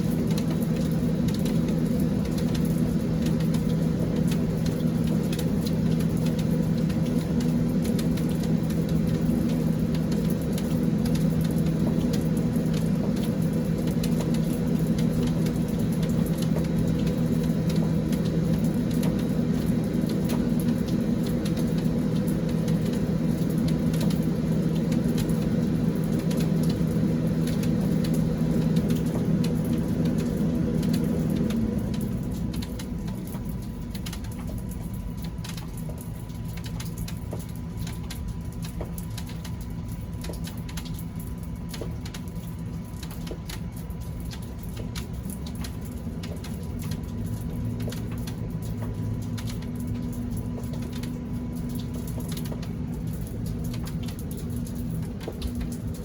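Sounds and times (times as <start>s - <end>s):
low motor hum: 0.0s - 56.0s
rain patter: 0.0s - 56.0s.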